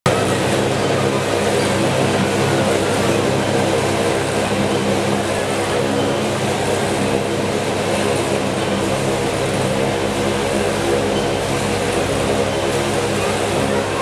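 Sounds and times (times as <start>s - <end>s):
motorcycle engines running: 0.1s - 14.0s.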